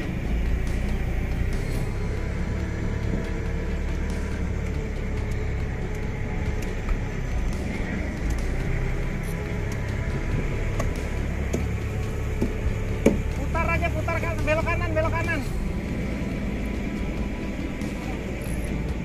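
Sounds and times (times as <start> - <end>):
boat engine drone: 0.0 - 19.0
wind: 0.0 - 19.0.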